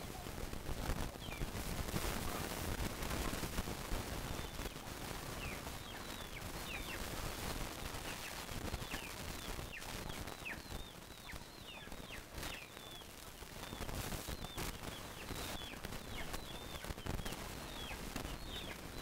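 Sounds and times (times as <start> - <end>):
chicks chirping: 0.0 - 19.0.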